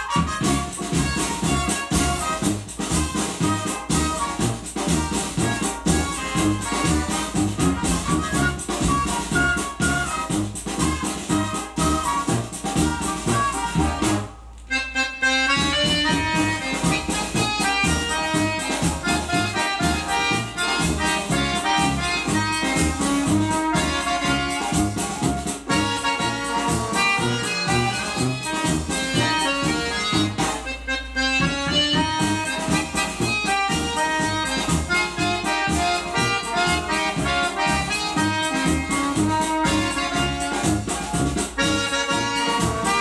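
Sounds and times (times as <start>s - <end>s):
accordion-led band music: 0.0s - 43.0s.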